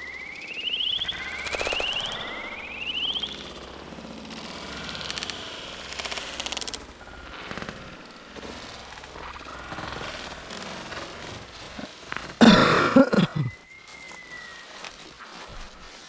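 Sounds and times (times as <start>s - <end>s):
leaves and twigs rustling: 0.0s - 16.0s.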